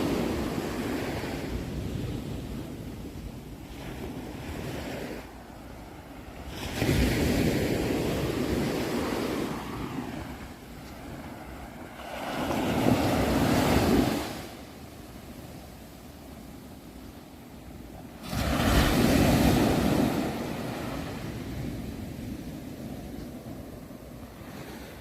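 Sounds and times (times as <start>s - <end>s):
ocean waves washing onto shore: 0.0s - 25.0s.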